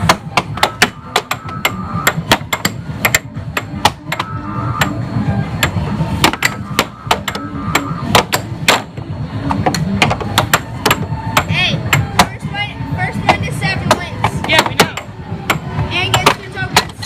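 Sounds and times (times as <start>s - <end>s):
air hockey mallets clacking: 0.0s - 12.5s, 13.2s - 17.0s.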